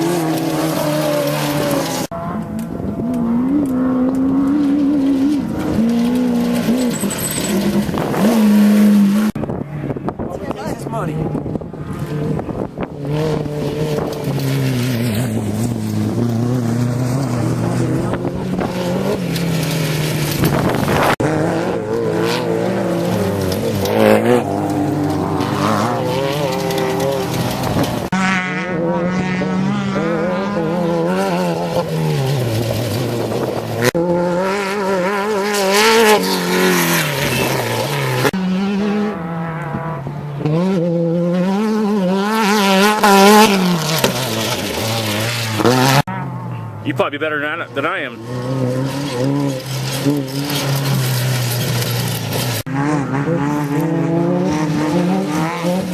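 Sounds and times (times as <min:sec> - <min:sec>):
race vehicle engines revving: 0:00.0 - 0:55.9.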